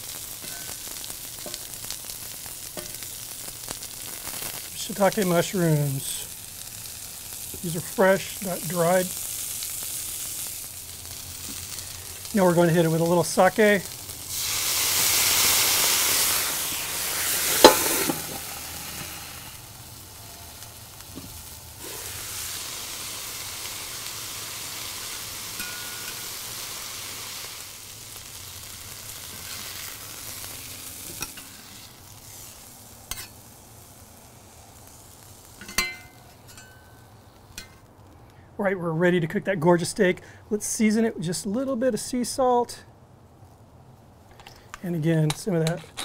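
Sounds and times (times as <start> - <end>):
liquid sizzling on hot griddle: 0.0 - 38.3.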